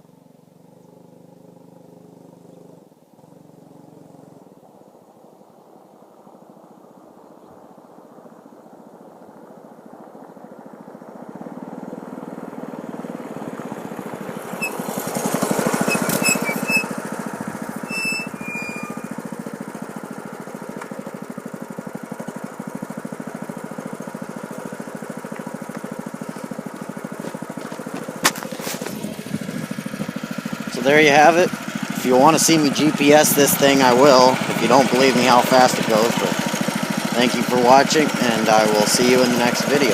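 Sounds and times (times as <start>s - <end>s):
mini bike engine: 0.0s - 4.7s, 10.6s - 39.9s.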